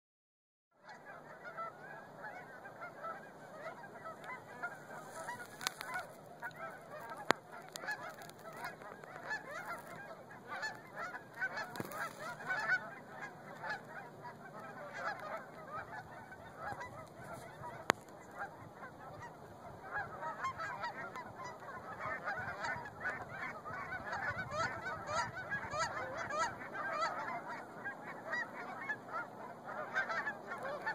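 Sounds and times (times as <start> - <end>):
geese honking: 0.8 - 30.9.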